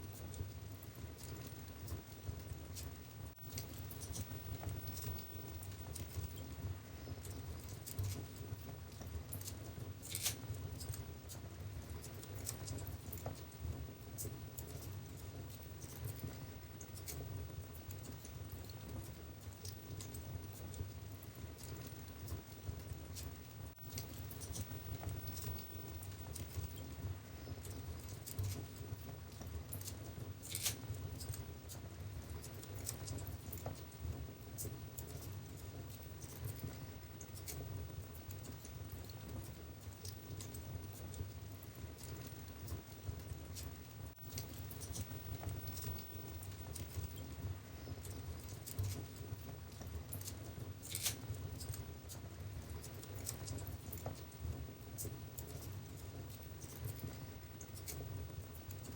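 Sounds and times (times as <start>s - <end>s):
low rumble of flames: 0.0s - 58.9s
wood fire crackling: 0.0s - 58.9s.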